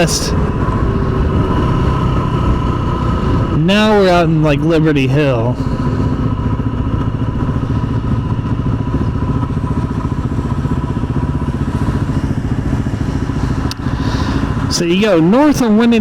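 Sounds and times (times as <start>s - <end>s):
motorcycle engine cruising: 0.0s - 16.0s
road noise rushing: 0.0s - 16.0s.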